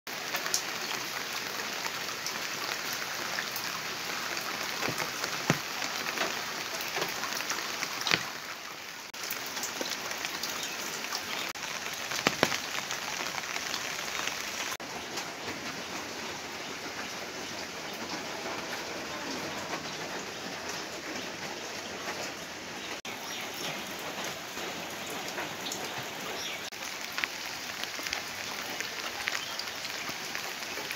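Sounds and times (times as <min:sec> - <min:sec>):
drips and splashes: 0:00.1 - 0:30.9
steady rain hiss: 0:00.1 - 0:30.9.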